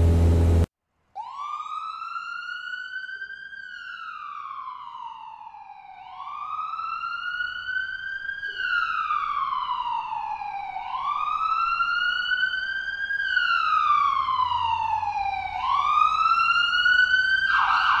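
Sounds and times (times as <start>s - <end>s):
toy fire engine siren wailing: 1.2s - 18.0s.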